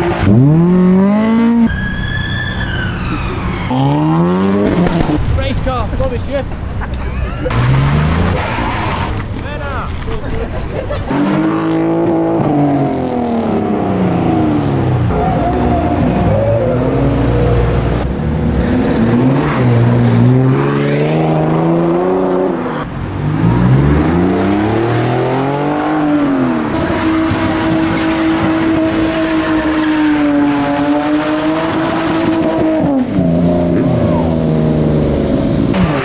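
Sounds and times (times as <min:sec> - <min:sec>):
car engine revving: 0:00.0 - 0:09.4, 0:10.8 - 0:36.0.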